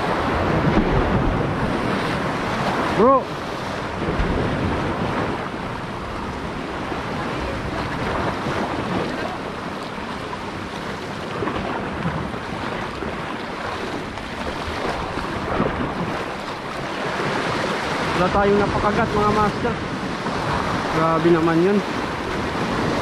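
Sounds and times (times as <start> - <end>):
sea surf washing in: 0.0 - 23.0
wind buffeting microphone: 0.0 - 23.0.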